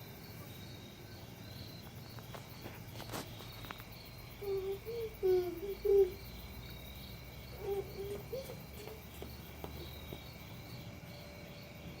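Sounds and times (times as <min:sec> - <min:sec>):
continuous high tone: 0:00.0 - 0:12.0
crickets chirping: 0:00.0 - 0:12.0.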